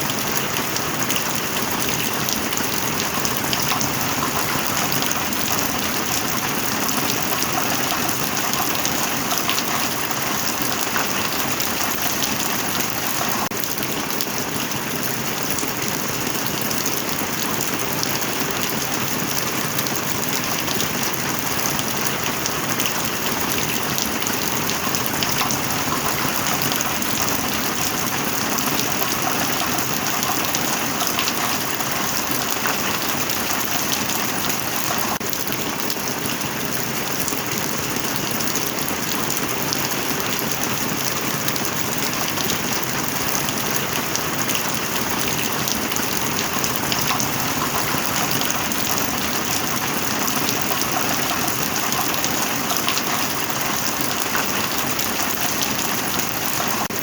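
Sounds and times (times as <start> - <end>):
raindrops pattering: 0.0 - 57.0.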